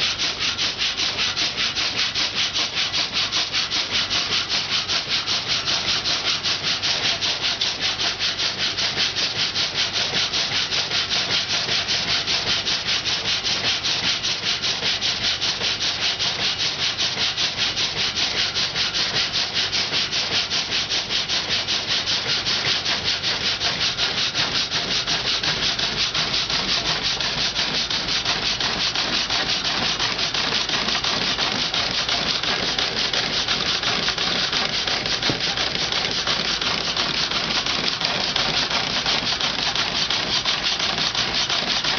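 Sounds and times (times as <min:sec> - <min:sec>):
saw rasping through log: 0:00.0 - 0:41.9.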